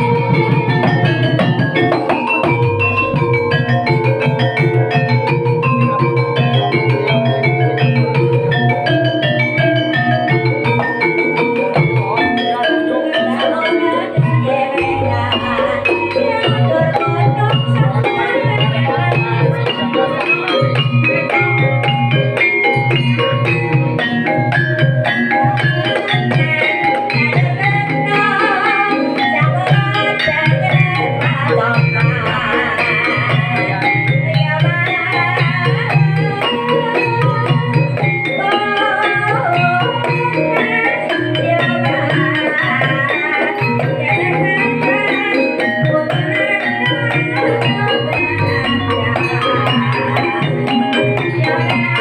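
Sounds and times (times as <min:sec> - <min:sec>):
hand drumming: 0:00.0 - 0:52.0
mallet-struck keyed instruments melody: 0:00.0 - 0:52.0
person singing: 0:00.0 - 0:52.0.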